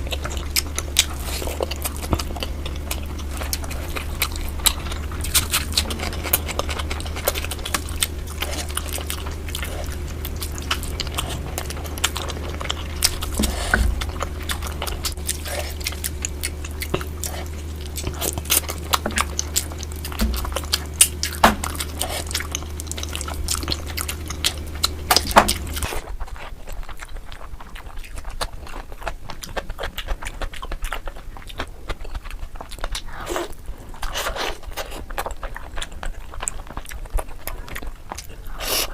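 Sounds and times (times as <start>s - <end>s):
close chewing and biting: 0.0s - 38.9s
low background hum: 0.0s - 38.9s.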